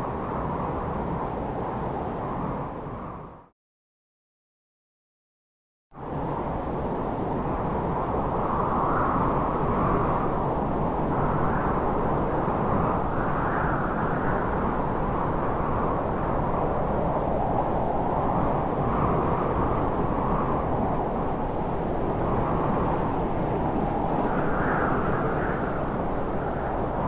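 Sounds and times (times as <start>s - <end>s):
rushing wind: 0.0s - 3.5s, 6.0s - 27.0s.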